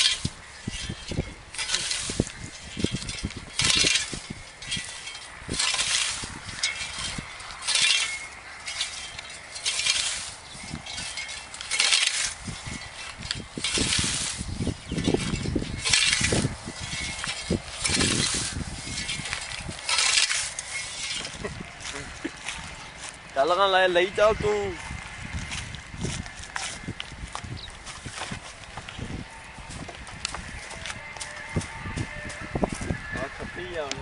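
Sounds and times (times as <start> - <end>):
rhythmic crunching swishing: 0.0 - 34.0.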